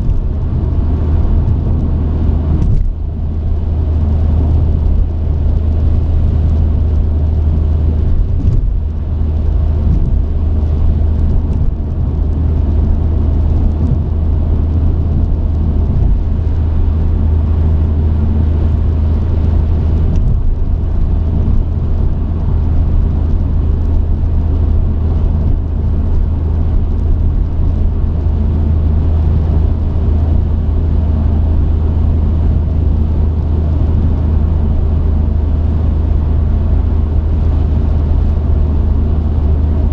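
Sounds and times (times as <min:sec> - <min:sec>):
road noise: 0:00.0 - 0:39.9
truck engine driving: 0:00.0 - 0:39.9.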